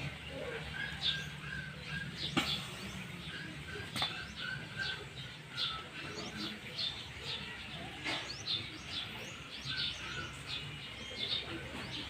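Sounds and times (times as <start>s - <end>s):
low background noise: 0.0s - 12.0s
small birds chirping: 0.0s - 12.0s.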